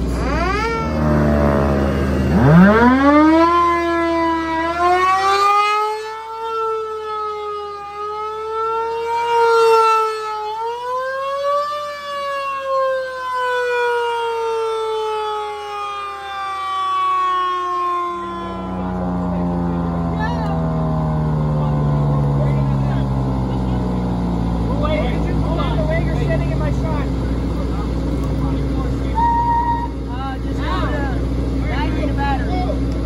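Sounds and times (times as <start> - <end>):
rotating siren wailing: 0.0 - 32.9.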